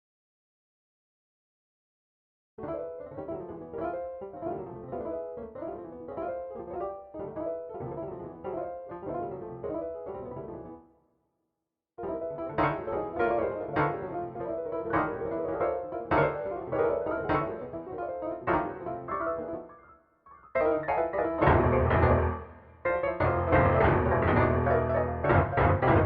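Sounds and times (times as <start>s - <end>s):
midi piano playing chords: 2.6s - 10.8s, 12.0s - 26.0s.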